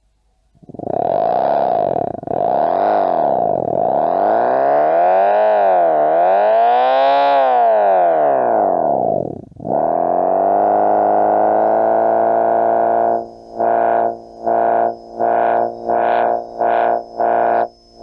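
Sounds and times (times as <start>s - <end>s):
buzzy engine-like tone from speaker: 0.6s - 18.0s.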